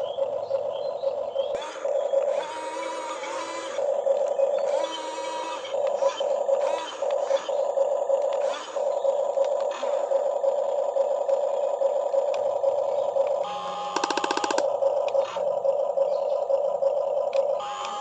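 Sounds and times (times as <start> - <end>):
electric motor whining: 1.5 - 18.0.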